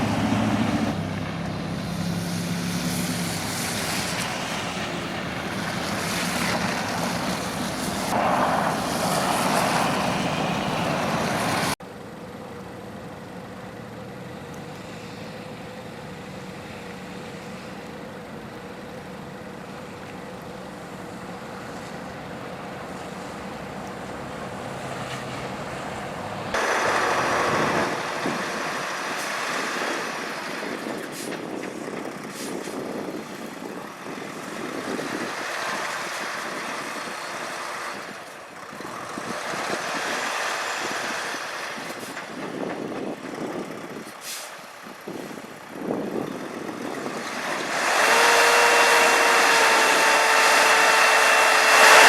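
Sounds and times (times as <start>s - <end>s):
vehicle road noise rushing: 0.0s - 52.0s.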